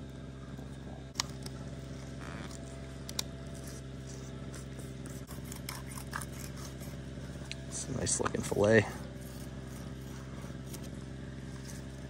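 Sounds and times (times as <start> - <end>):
small engine humming: 0.0 - 12.0.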